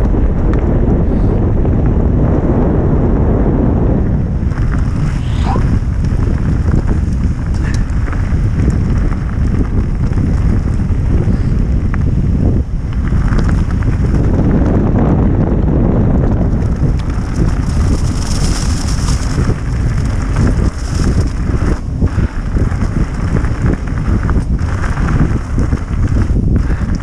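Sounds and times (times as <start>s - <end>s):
bike clicks and rattles: 0.0s - 2.1s, 4.3s - 27.0s
tyres rumbling on gravel track: 0.0s - 27.0s
wind buffeting microphone: 0.0s - 27.0s.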